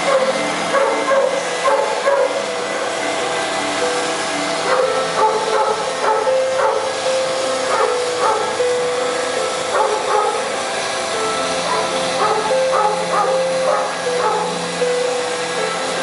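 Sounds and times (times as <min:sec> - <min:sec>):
cutting torch hissing: 0:00.0 - 0:16.0.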